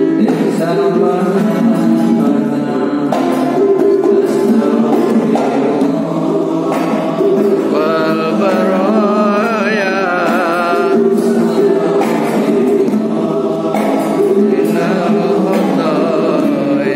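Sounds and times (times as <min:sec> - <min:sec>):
men chanting in unison: 0:00.0 - 0:16.9.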